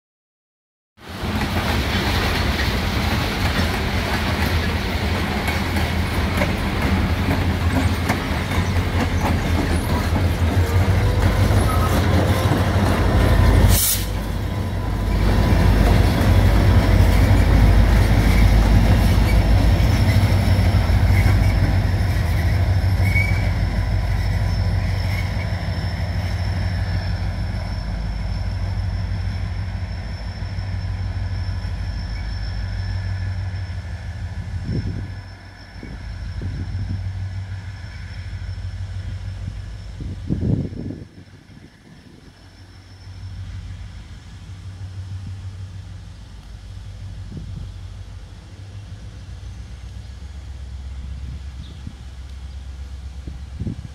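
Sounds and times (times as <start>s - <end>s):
diesel locomotives running: 1.0s - 53.9s
train wheels rumbling on rails: 1.0s - 53.9s.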